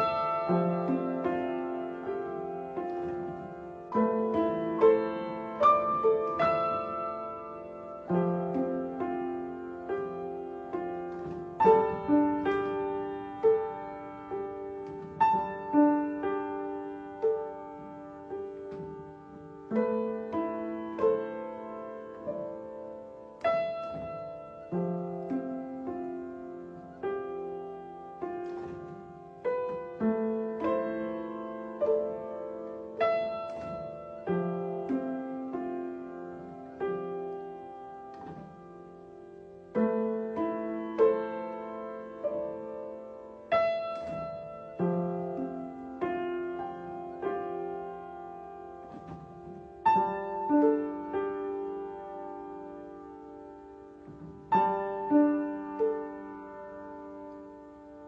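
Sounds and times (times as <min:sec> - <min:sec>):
solo piano piece: 0:00.0 - 0:58.0.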